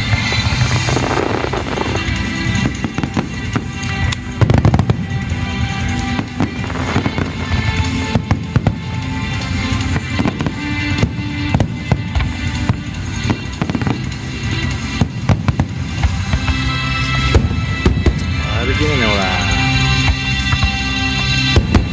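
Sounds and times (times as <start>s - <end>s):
fireworks bursting and crackling: 0.0s - 21.9s
music with long held notes: 0.0s - 21.9s.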